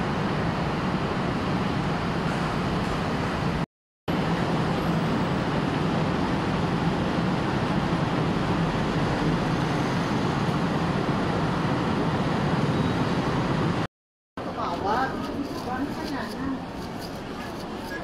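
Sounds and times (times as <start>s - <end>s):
traffic engines and road noise: 0.0s - 18.0s.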